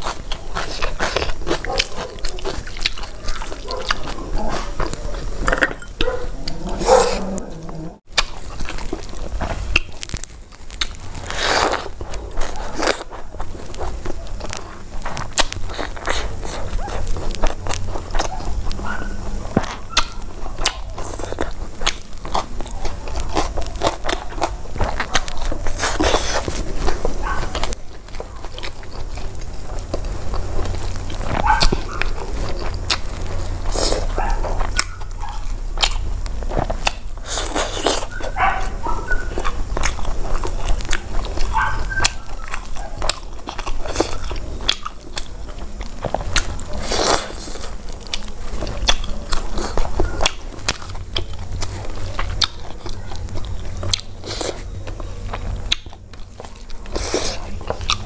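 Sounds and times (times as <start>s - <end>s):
wet chewing with smacks: 0.0s - 5.4s, 6.0s - 58.0s
steady low hum: 0.0s - 58.0s.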